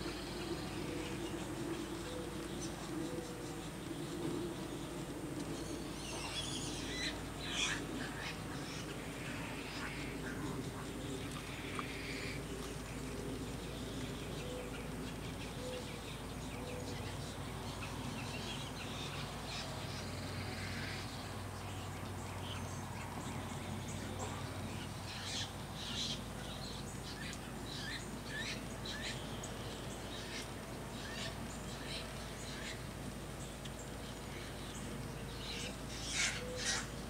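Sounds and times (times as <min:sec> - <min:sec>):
steady low rumble: 0:00.0 - 0:36.1
birds chirping: 0:00.0 - 0:37.0.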